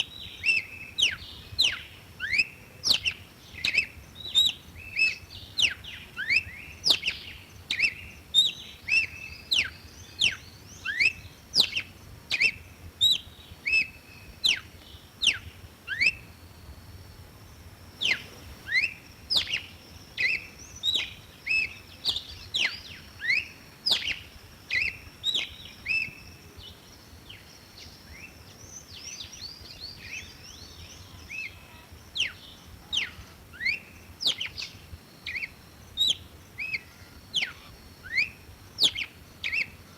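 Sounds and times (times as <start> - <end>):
bird singing whistled notes: 0.0 - 17.2, 17.9 - 39.9.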